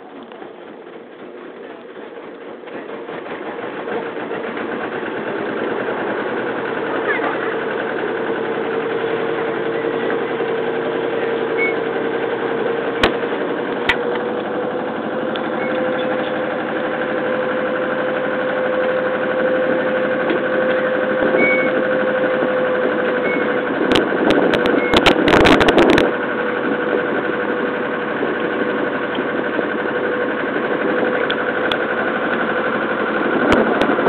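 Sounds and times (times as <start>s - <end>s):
ferry engine humming: 0.0s - 34.0s.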